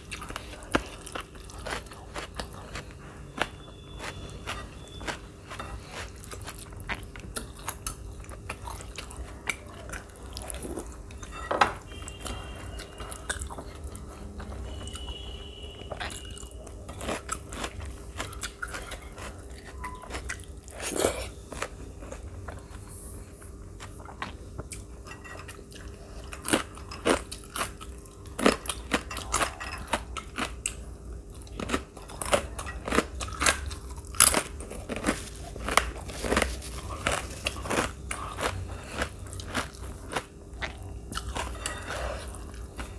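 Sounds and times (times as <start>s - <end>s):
chewing food: 0.0s - 42.9s.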